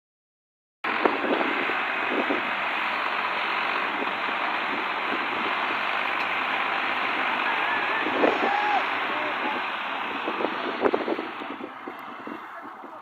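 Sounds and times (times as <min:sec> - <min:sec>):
tractor engine running: 0:00.8 - 0:13.0.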